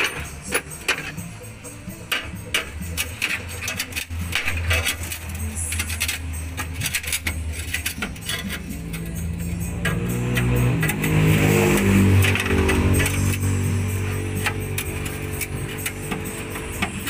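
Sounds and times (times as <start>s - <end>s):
screwdriver scraping sheet metal: 2.0s - 17.0s.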